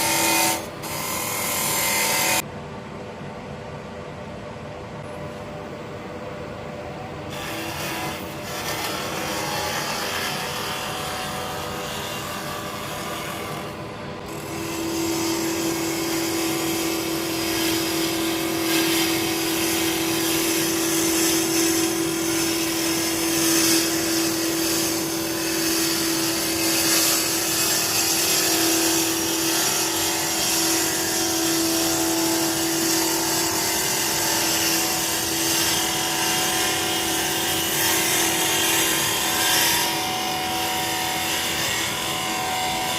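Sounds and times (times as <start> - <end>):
lathe and dust extractor hum: 6.6 - 42.9.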